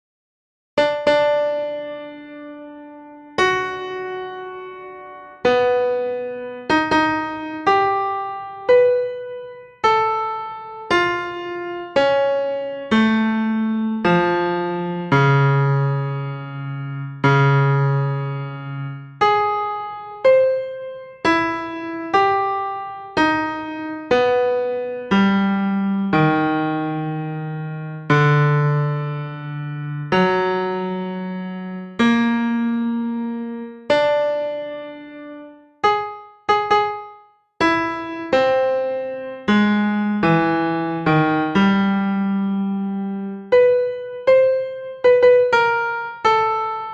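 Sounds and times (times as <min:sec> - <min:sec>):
slow piano-like keyboard chords: 0:00.8 - 0:46.9.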